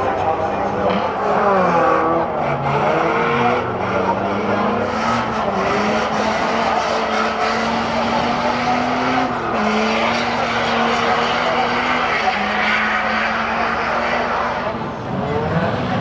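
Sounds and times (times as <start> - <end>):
racing car engines revving: 0.0 - 16.0
tyres skidding: 0.0 - 16.0.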